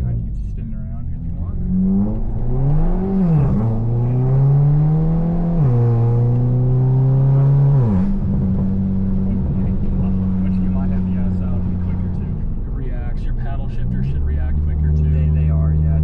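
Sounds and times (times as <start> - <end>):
turbocharged car engine accelerating: 0.0 - 16.0.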